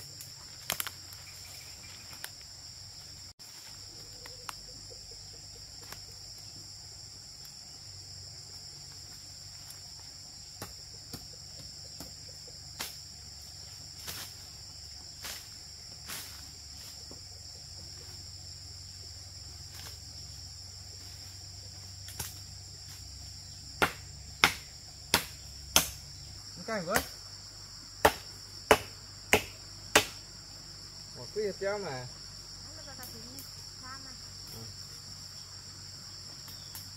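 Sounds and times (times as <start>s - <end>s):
insects chorus: 0.0s - 36.9s.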